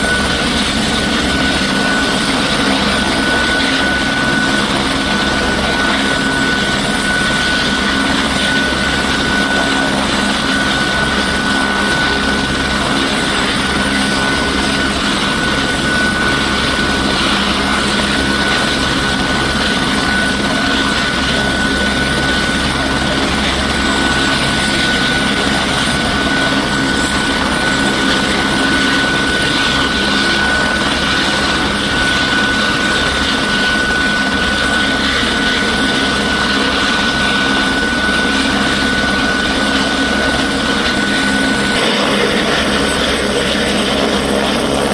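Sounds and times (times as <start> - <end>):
helicopter engine and rotor: 0.0 - 44.9
steady high-pitched tone: 0.0 - 44.9.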